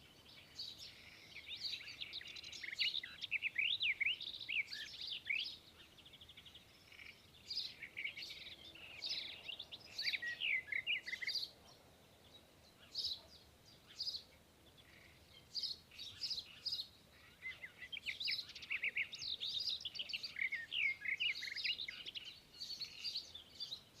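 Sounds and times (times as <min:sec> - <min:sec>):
small songbirds chirping: 0:00.0 - 0:24.0.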